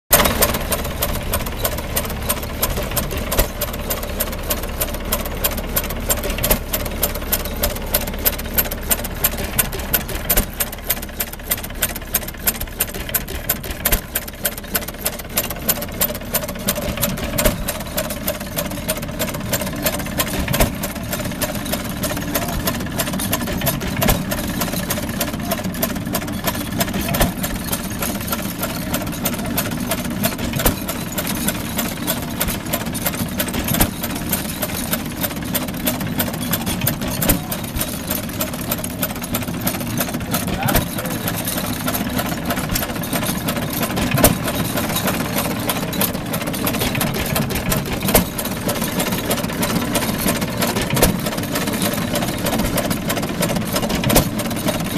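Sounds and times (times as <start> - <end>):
braiding machine clicking clatter: 0.1 - 54.9
hit-and-miss gas engine running: 0.1 - 54.9.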